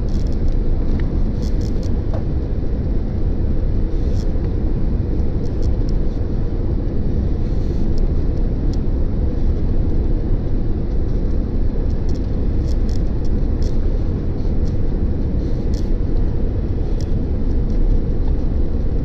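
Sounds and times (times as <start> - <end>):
jet airliner cabin roar: 0.0 - 19.0.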